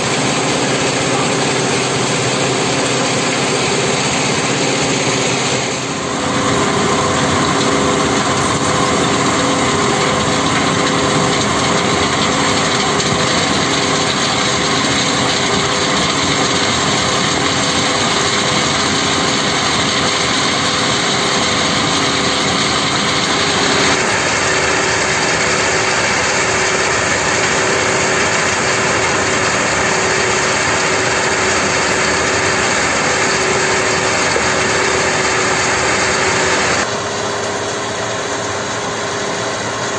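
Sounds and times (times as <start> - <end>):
stone crushing machinery din: 0.0 - 36.8.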